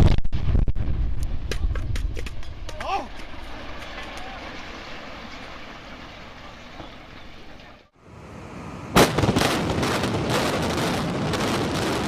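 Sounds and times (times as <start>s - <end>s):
building collapsing rumble: 0.0s - 12.0s
outdoor background noise: 0.0s - 12.0s.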